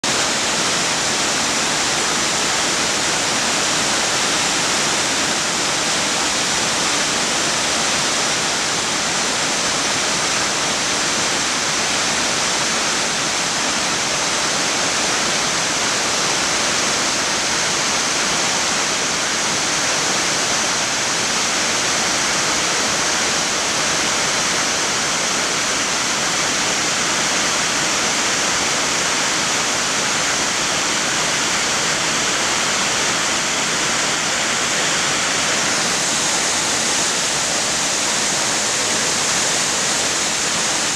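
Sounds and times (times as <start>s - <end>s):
waterfall crashing into pools: 0.0s - 40.9s.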